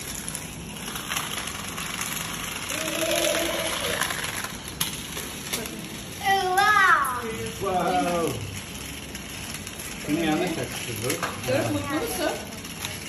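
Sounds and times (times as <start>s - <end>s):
toy car whirring: 0.0s - 13.0s.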